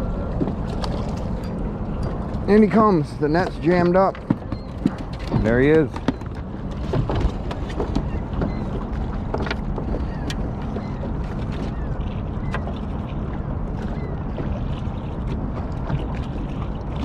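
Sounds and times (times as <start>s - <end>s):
water noise around boat: 0.0s - 17.0s.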